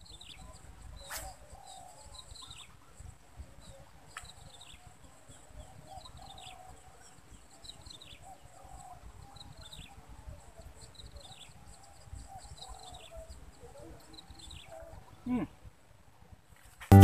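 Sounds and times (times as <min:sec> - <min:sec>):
wind rumble on microphone: 0:00.0 - 0:15.2.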